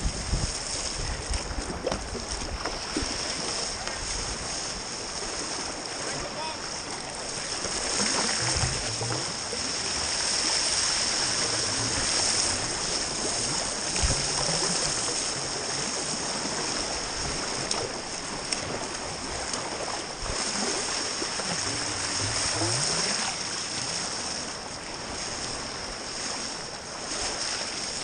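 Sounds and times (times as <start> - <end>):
kayak knocks: 0.0 - 23.3
water rushing around kayak bow: 0.0 - 28.0
water splashes: 0.0 - 28.0.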